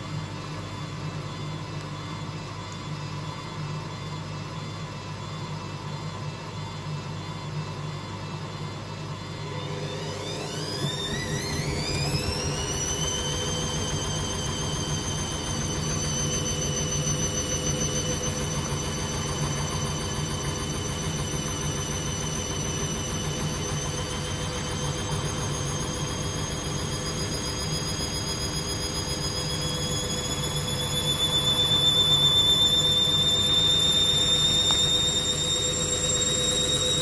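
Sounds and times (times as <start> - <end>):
washing machine motor whining: 0.0 - 37.0.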